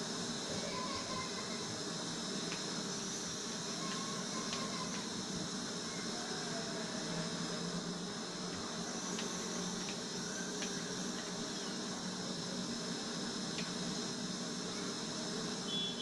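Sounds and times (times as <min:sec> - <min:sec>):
room noise hiss: 0:00.0 - 0:16.0.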